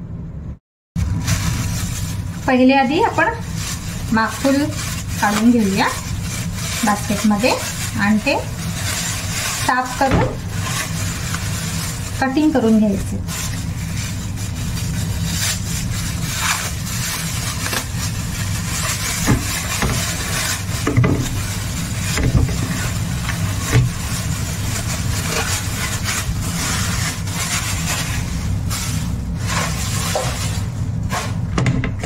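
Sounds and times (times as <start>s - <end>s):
steady low hum: 0.0s - 32.0s
plastic bag rustling: 1.0s - 32.0s.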